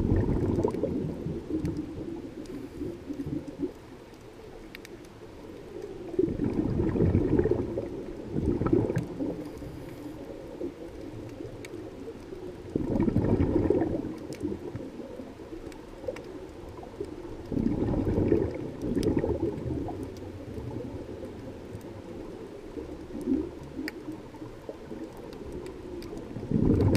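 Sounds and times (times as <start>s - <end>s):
regulator bubbles gurgling underwater: 0.0s - 26.9s
faint clicks: 0.2s - 26.9s.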